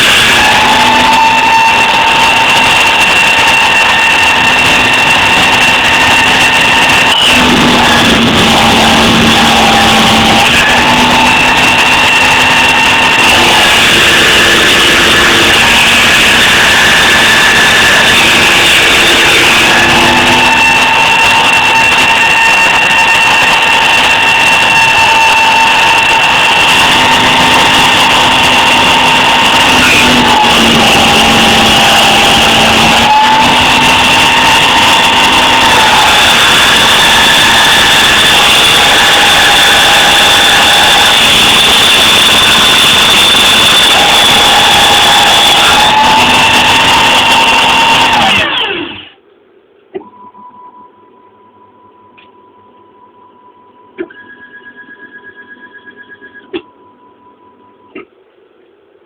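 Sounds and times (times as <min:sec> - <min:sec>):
cnc mill motor whine: 0:00.0 - 0:49.2.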